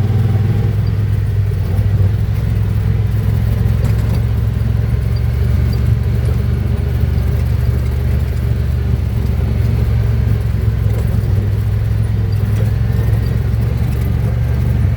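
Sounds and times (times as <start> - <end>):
utility vehicle engine droning: 0.0 - 14.9.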